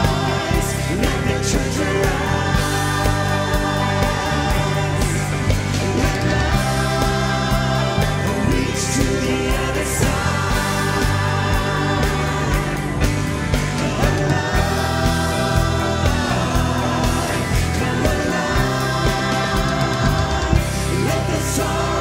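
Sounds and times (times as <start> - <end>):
band playing steady beat: 0.0 - 22.0
people singing together: 0.0 - 22.0.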